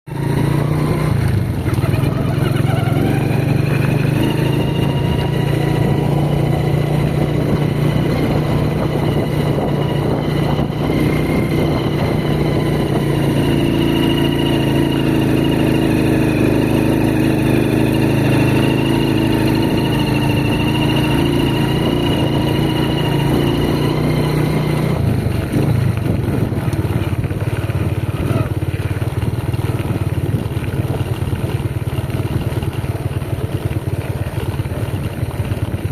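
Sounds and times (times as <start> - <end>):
motorcycle engine running: 0.1 - 35.9.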